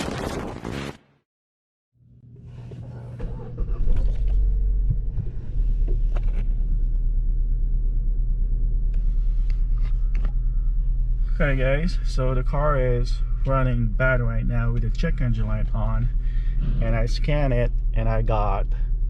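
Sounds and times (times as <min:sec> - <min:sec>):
car engine idling rough: 0:02.8 - 0:19.0.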